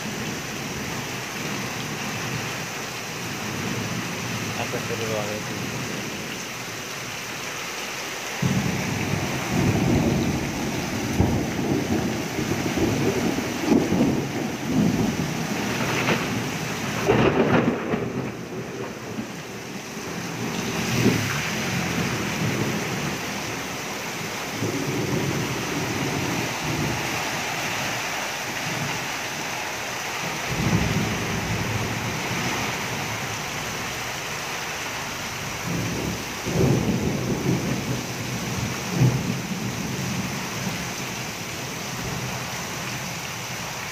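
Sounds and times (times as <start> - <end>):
heavy rain hissing: 0.0 - 43.9
rainwater running along pavement: 0.0 - 43.9.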